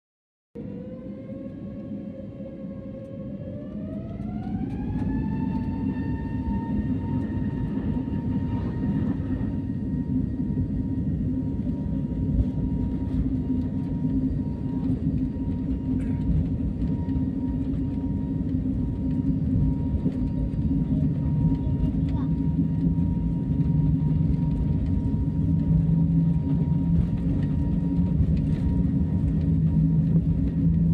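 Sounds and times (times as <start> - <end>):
jet engines spooling up: 0.6 - 30.9.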